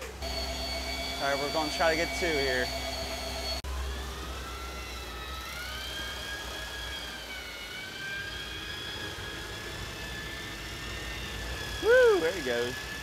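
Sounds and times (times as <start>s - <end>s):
boat engines whining: 0.0s - 13.0s.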